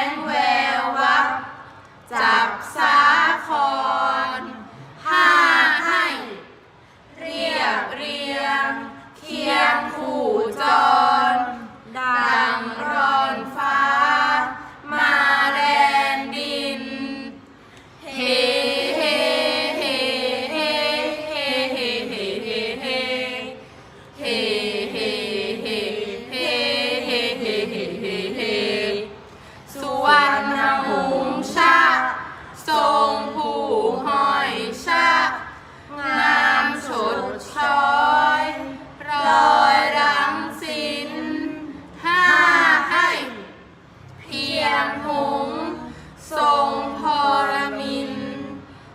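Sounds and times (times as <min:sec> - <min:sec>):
young voices chanting in unison: 0:00.0 - 0:48.8.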